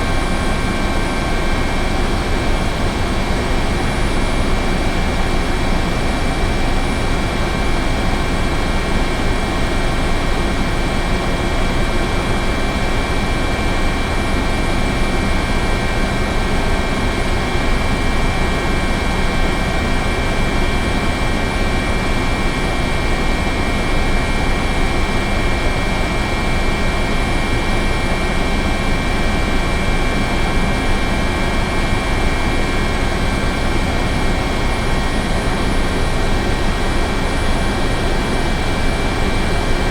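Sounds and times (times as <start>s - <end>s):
helicopter engine and rotor: 0.0s - 39.9s
turbine whine: 0.0s - 39.9s.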